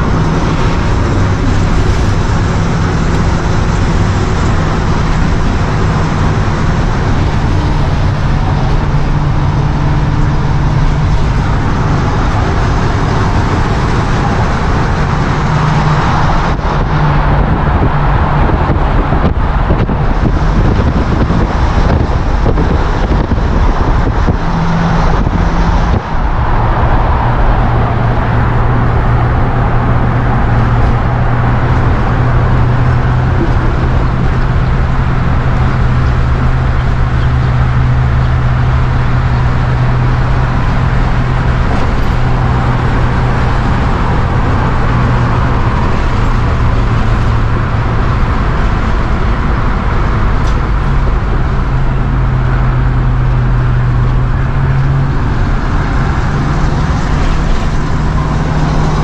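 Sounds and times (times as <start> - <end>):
engine hum: 0.0 - 59.0
road and wind noise: 0.0 - 59.0.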